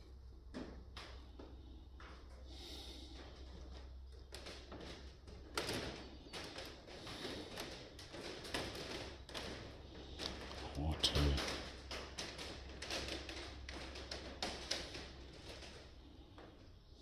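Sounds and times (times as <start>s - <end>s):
rustling and clicks of handling: 0.0s - 17.0s.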